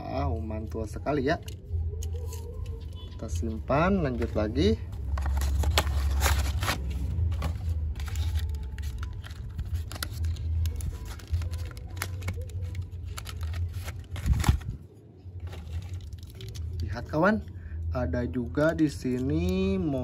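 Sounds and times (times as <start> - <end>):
packaging rustling and crinkling: 1.3 - 17.4.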